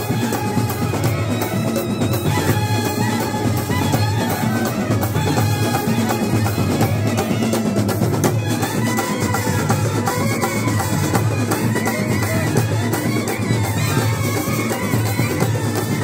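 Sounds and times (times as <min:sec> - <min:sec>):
bass and snare drums beating: 0:00.0 - 0:16.0
wind instruments melody: 0:00.0 - 0:16.0.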